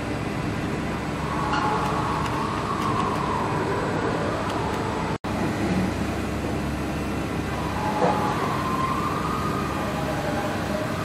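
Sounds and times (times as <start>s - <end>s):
roller machine rumble and hum: 0.0s - 11.0s.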